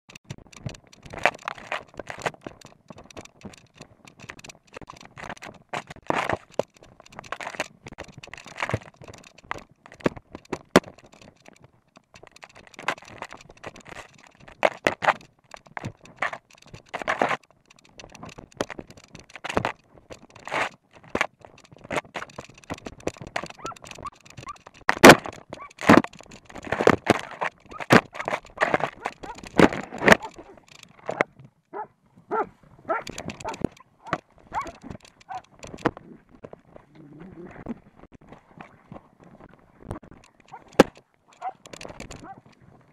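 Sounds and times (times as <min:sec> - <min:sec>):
brush and twigs rustling: 0:00.1 - 0:42.9.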